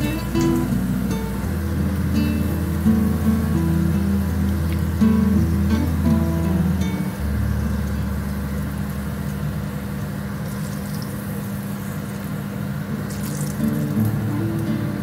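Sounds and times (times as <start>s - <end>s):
chicken deep-frying in oil: 0.0s - 15.0s
low machine hum: 0.0s - 15.0s.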